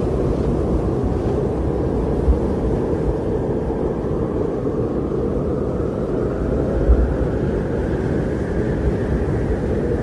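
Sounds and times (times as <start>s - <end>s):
strong blizzard wind: 0.0s - 10.0s.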